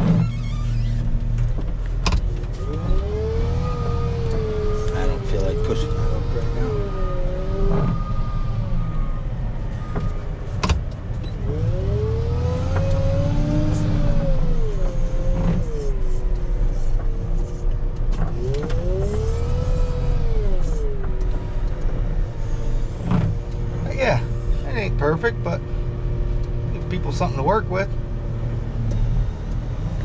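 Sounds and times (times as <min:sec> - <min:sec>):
diesel loader engine revving: 0:00.0 - 0:30.0.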